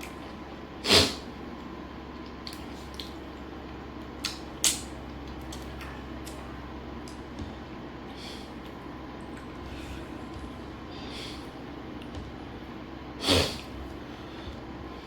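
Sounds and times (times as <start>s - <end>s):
steady low hum: 0.0s - 15.0s
person chewing food: 2.2s - 14.8s.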